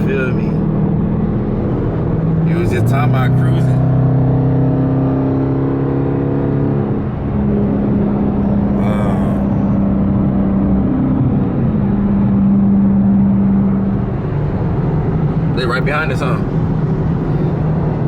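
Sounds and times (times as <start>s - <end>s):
car engine running: 0.0s - 9.9s, 11.4s - 18.0s.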